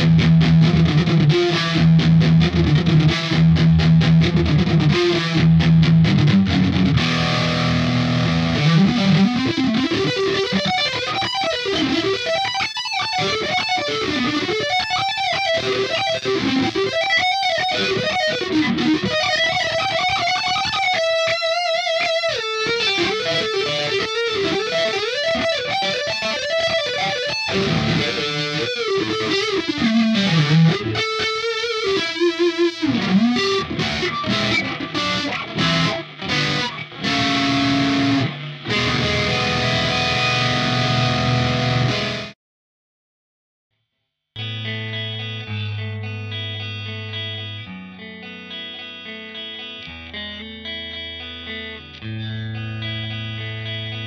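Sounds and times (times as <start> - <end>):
distorted electric guitar solo: 0.0 - 42.4, 44.4 - 54.0.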